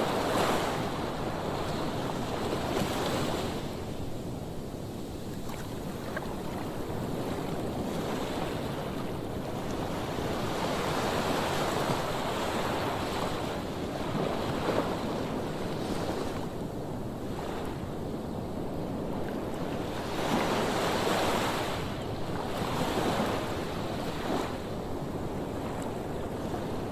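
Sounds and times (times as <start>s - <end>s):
wind: 0.0s - 26.9s.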